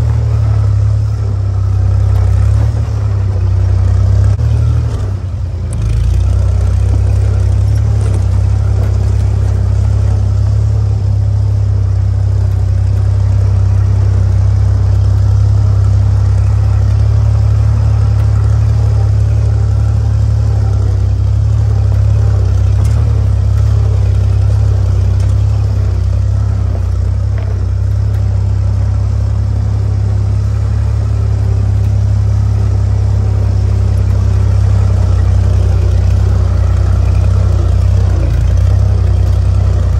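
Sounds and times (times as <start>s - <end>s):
jeep engine droning: 0.0s - 39.9s.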